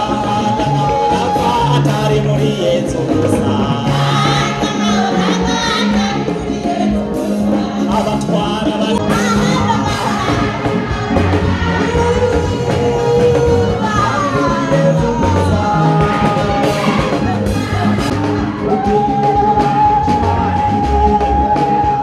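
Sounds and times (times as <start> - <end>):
choir singing gospel song: 0.0 - 22.0
instrumental accompaniment: 0.0 - 22.0
steady bass line: 0.0 - 22.0.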